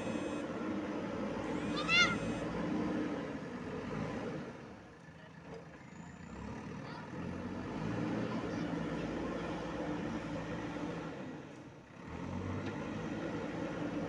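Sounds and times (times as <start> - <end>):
diesel engine working: 0.0 - 14.0.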